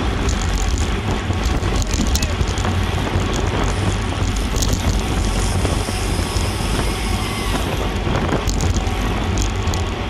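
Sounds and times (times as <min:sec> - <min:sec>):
bicycle tyres on road: 0:00.0 - 0:10.0
wind buffeting microphone: 0:00.0 - 0:10.0.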